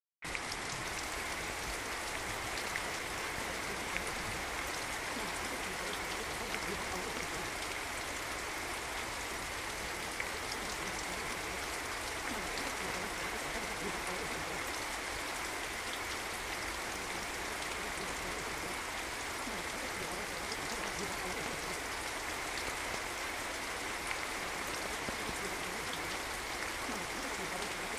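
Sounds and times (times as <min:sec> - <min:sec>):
rain drop ticks: 0:00.3 - 0:27.9
steady rain hiss: 0:00.3 - 0:27.9.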